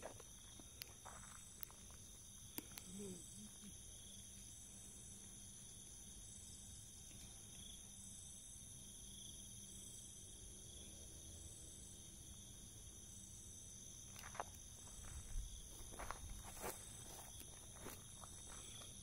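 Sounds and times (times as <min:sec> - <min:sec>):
insects trilling: 0:00.0 - 0:19.0
pulsing insect chirp: 0:00.0 - 0:19.0.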